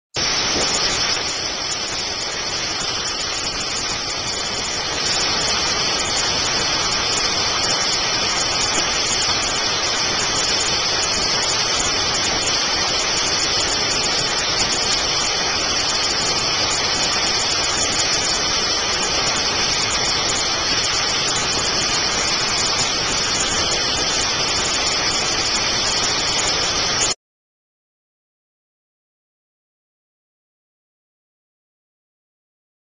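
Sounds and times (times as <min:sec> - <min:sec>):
water spray and vacuum hiss: 0:00.2 - 0:27.2.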